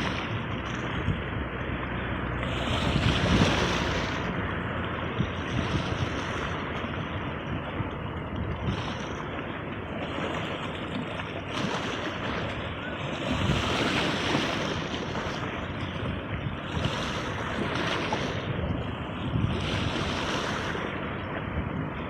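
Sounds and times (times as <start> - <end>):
sea waves breaking: 0.0 - 22.0
wind rumbling on microphone: 0.0 - 22.0.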